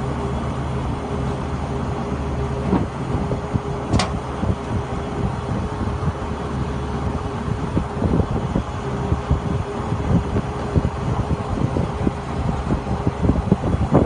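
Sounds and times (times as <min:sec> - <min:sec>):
drilling rig engine droning: 0:00.0 - 0:14.0.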